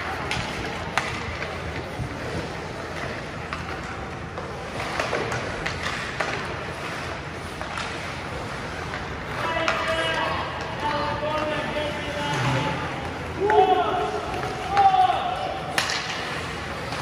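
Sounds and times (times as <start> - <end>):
hockey sticks clacking: 0.0 - 17.0
skates scraping on ice: 0.0 - 17.0.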